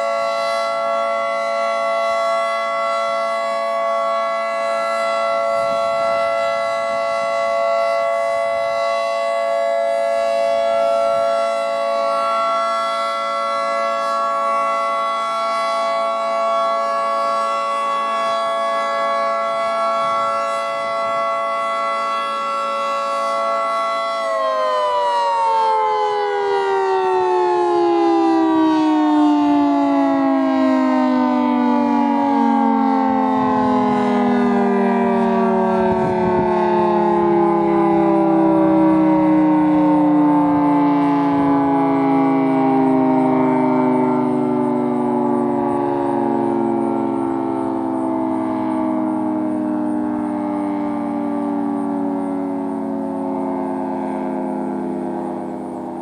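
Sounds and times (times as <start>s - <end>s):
two-tone warning siren: 0.0s - 56.0s.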